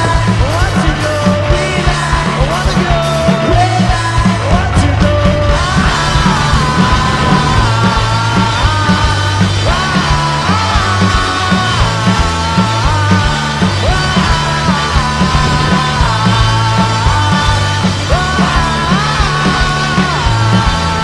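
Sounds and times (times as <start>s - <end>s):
rock music with vocals: 0.0s - 21.0s.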